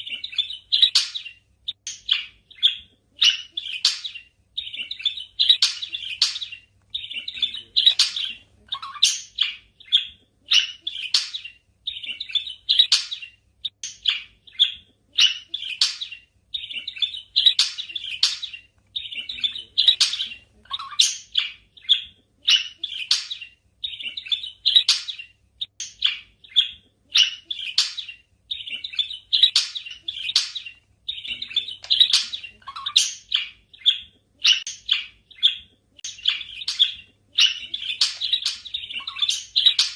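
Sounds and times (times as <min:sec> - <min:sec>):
budgies chirping: 0:00.0 - 0:39.9.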